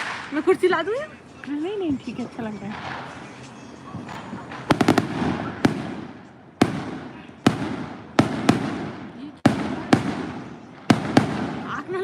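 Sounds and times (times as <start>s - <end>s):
fireworks exploding: 0.0s - 1.0s, 2.2s - 12.0s.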